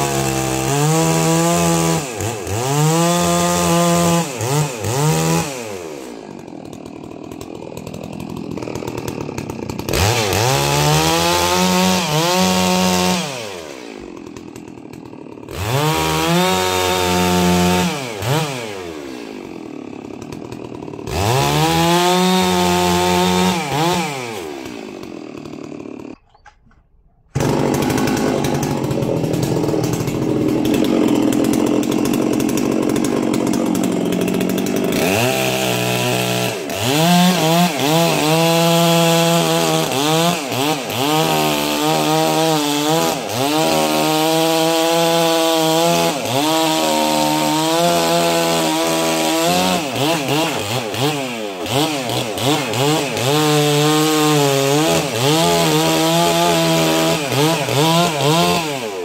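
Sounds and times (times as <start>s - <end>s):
chainsaw revving and cutting logs: 0.0s - 59.0s.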